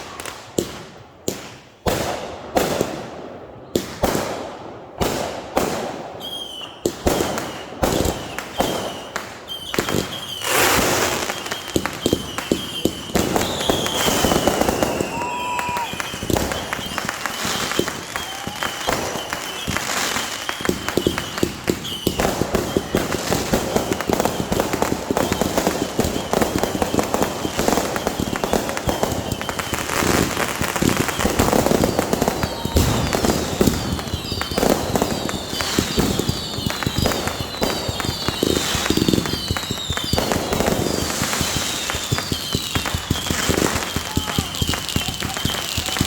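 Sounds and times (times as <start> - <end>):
fireworks crackling and popping: 0.0 - 46.0
fireworks whistles: 5.0 - 46.0.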